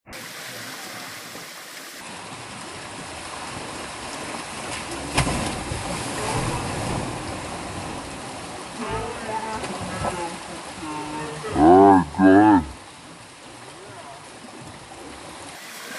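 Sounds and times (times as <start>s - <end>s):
water rushing down a slide: 0.1s - 15.9s.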